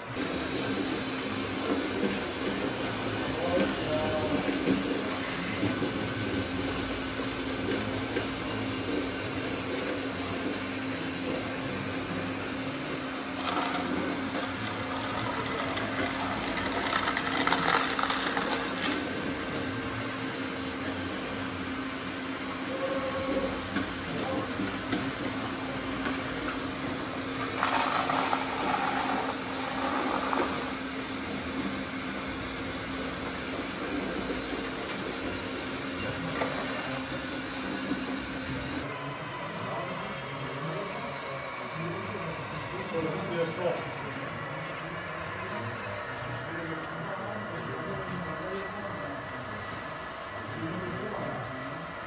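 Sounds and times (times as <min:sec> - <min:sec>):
small electric motors whirring: 0:00.1 - 0:52.0.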